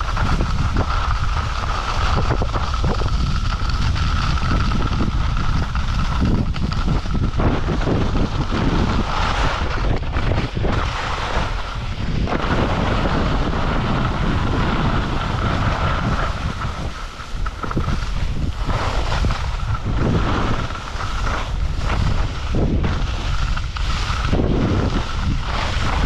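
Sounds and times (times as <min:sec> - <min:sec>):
skis scraping over snow: 0:00.0 - 0:26.0
wind buffeting microphone: 0:00.0 - 0:26.0.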